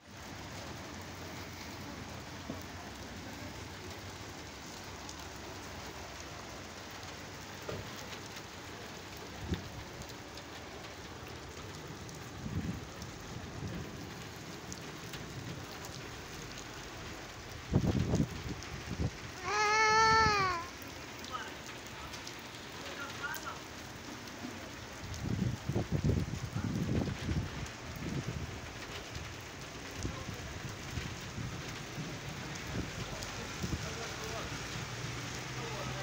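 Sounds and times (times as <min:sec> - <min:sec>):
heavy rain on wet paving: 0:00.0 - 0:36.0.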